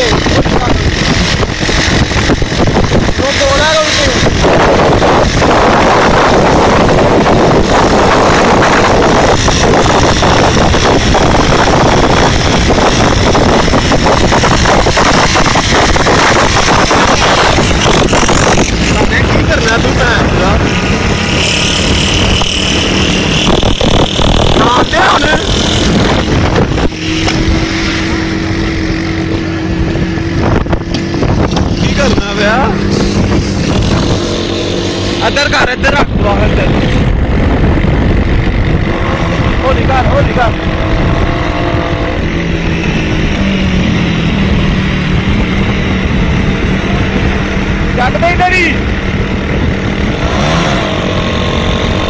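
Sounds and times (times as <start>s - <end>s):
motorcycles passing at speed: 0.0s - 52.0s
wind rushing over microphone: 0.0s - 52.0s.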